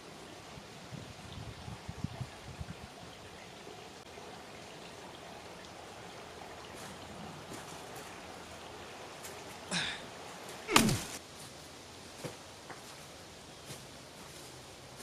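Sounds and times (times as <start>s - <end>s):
creek flowing: 0.0s - 15.0s.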